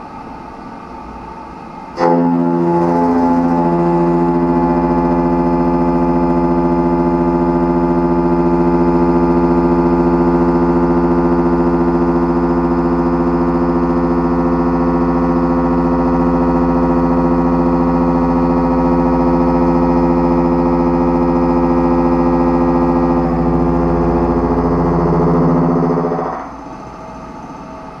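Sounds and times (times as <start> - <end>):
machine hum: 0.0 - 28.0.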